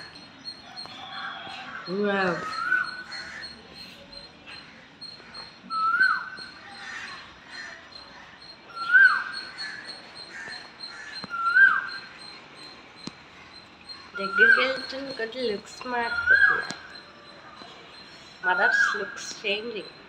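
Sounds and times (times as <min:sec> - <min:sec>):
animal calling: 0:00.0 - 0:12.8, 0:13.4 - 0:19.3.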